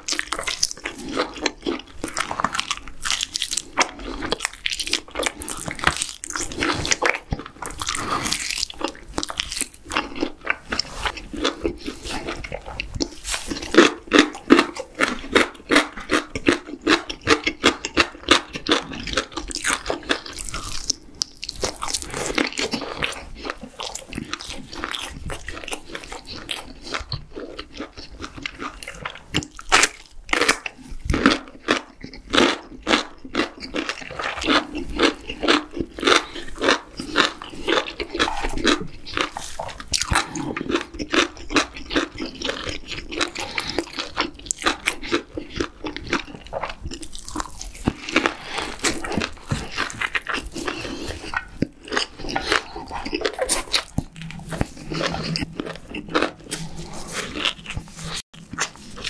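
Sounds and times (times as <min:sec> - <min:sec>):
close chewing and biting: 0:00.0 - 0:59.0.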